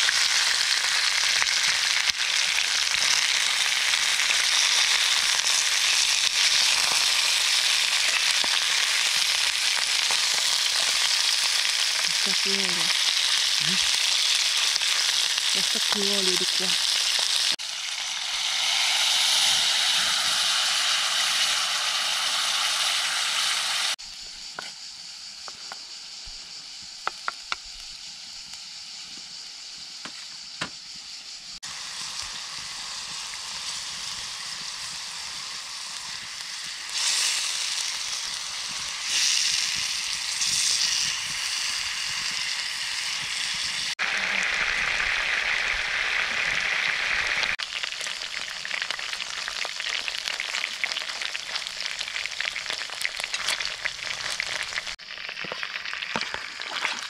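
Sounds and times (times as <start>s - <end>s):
chicken sizzling in a skillet: 0.0s - 57.0s.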